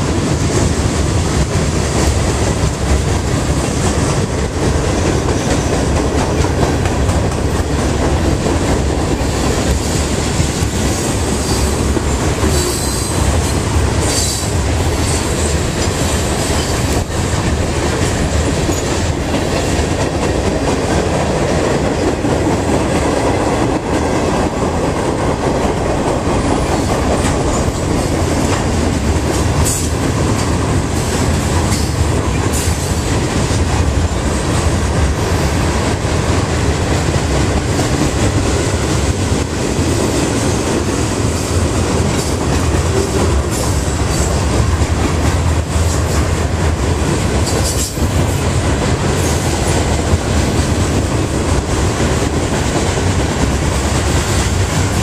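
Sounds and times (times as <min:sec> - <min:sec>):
freight train wheels rumbling and clattering: 0:00.0 - 0:55.0.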